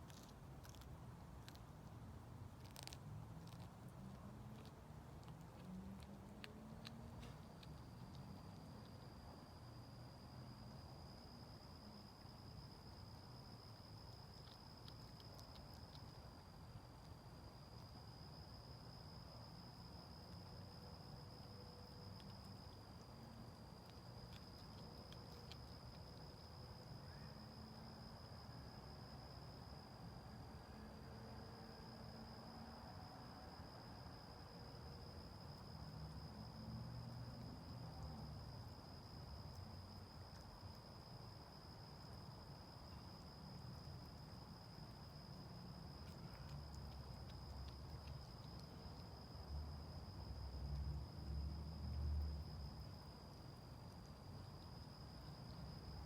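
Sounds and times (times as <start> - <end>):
faint high-pitched whine: 0.0 - 56.0.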